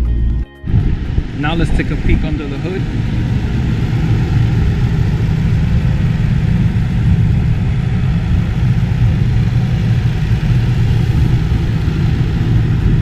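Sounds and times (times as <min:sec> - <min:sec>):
car engine idling: 0:00.7 - 0:13.0.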